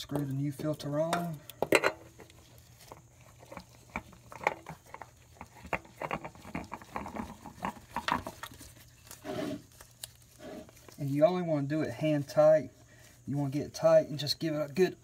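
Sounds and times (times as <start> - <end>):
oil filter clicking and scraping: 0.0 - 15.0.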